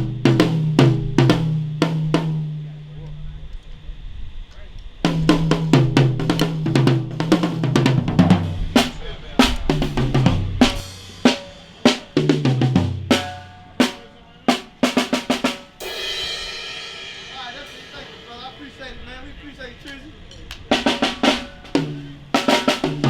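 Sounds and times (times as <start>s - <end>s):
drum kit played hard: 0.0s - 2.7s, 5.0s - 19.2s, 20.7s - 23.0s.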